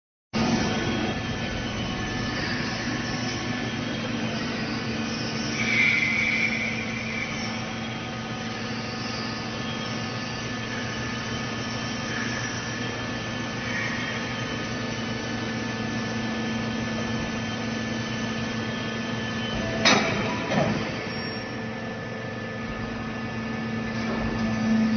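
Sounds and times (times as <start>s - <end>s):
baling press motor hum: 0.4s - 24.9s.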